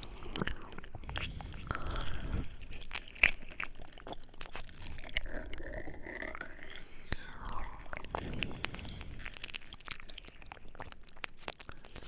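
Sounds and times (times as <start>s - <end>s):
mouth clicks and smacks: 0.0s - 12.0s.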